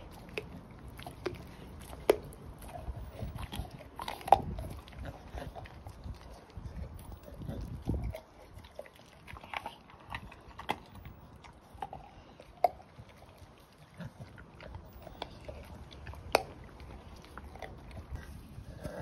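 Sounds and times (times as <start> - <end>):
puppy chewing and crunching bone: 0.0 - 19.0.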